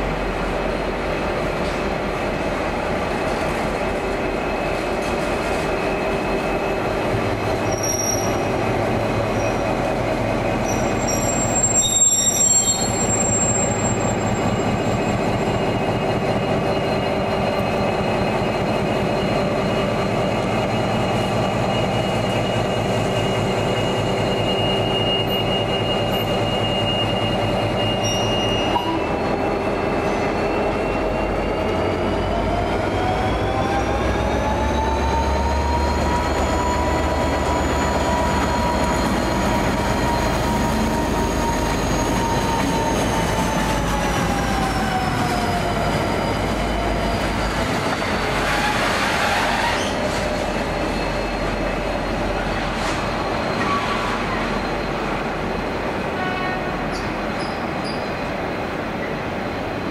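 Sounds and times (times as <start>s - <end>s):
train engine and wheels droning: 0.0s - 59.9s
high-pitched wheel squeal: 5.6s - 8.6s, 10.5s - 58.4s.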